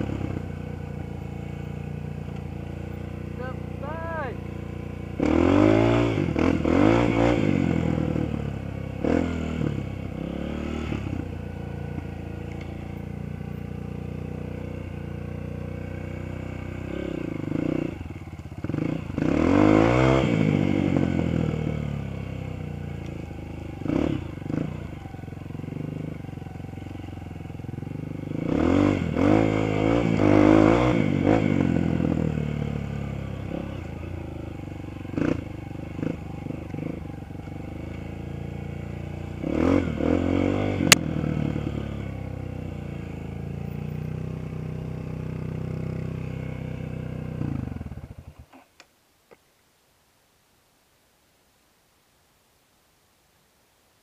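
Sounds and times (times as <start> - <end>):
dirt bike engine revving: 0.0 - 48.1.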